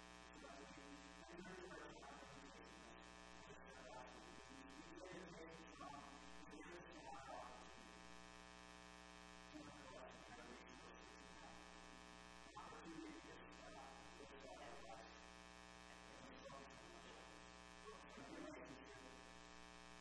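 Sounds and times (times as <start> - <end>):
electrical mains hum and buzz: 0.0 - 20.0.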